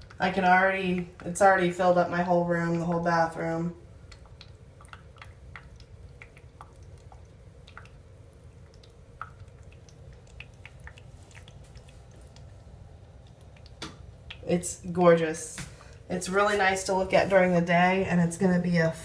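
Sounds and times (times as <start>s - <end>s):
water drips and pops: 0.0s - 16.7s
diffuser low hum: 0.0s - 19.0s.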